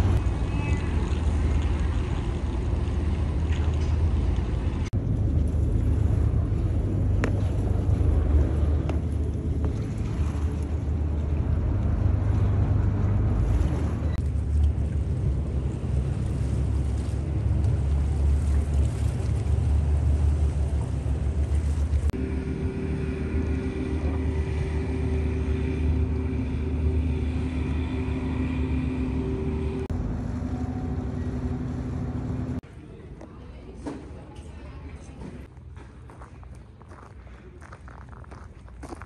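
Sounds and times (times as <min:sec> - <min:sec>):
wind rumbling on microphone: 0:00.0 - 0:32.6
boat engine drone: 0:00.0 - 0:32.7.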